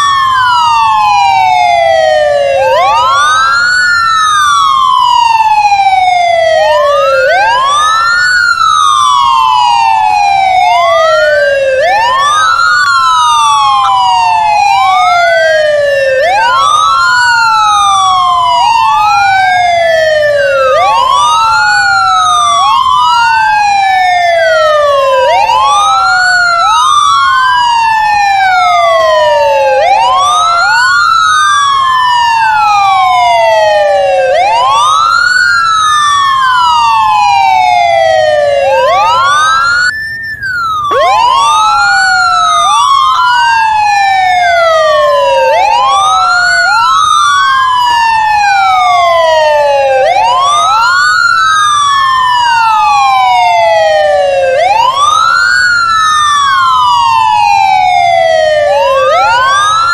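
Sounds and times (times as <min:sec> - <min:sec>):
ambulance siren wailing: 0:00.0 - 0:59.9.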